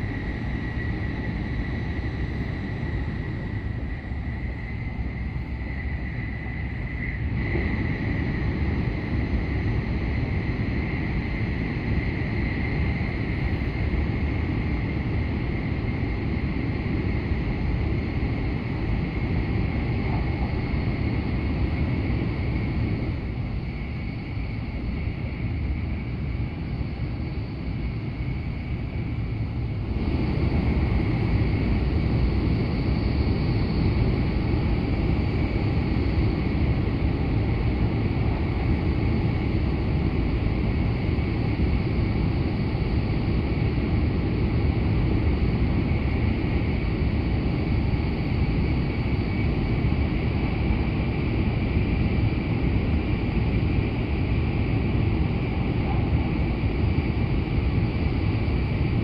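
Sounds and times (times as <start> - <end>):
train rumble with high whine: 0.0 - 59.0.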